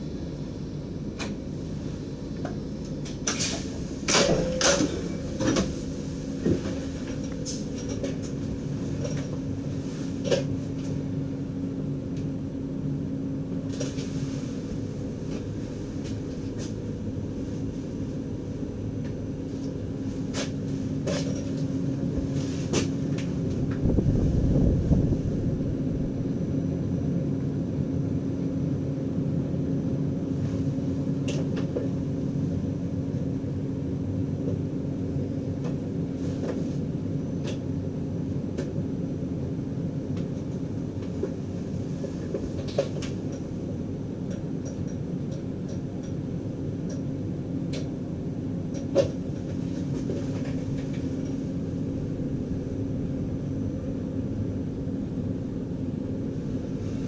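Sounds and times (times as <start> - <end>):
constant hum: 0.0 - 57.0
train rumble: 0.0 - 57.0.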